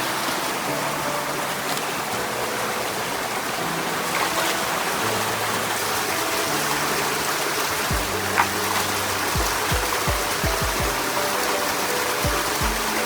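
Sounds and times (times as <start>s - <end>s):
flowing water rushing: 0.0s - 13.0s
soft background music: 0.0s - 13.0s.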